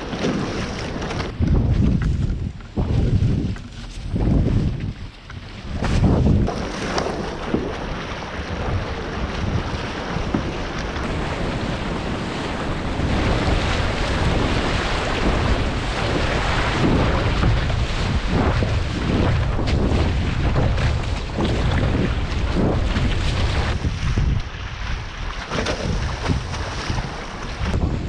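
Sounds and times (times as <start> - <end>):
water splashing along hull: 0.0 - 28.0
wind buffeting microphone: 0.0 - 28.0.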